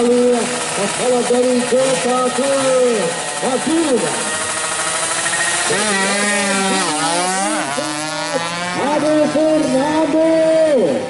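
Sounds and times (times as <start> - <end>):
two-stroke motorbike accelerating: 0.0 - 11.0.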